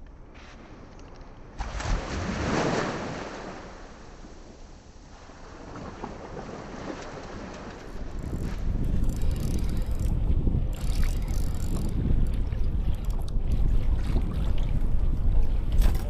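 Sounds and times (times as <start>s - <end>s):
wind: 0.0s - 16.0s
sea water washing around kayak: 1.6s - 16.0s.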